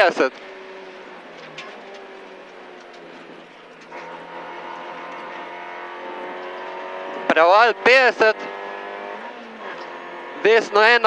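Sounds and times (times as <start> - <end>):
rally car engine running hard: 0.0 - 11.0
road noise: 0.0 - 11.0.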